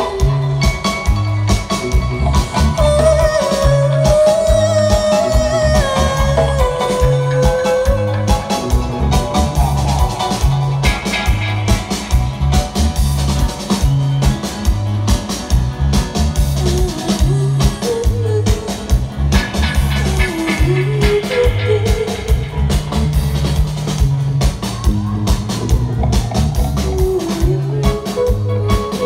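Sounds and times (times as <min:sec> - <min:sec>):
repeating bass line: 0:00.0 - 0:28.8
live reggae band: 0:00.0 - 0:29.0.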